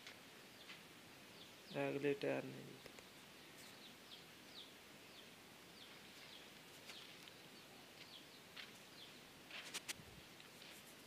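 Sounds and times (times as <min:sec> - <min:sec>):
faint bird chirps: 0:00.4 - 0:09.8.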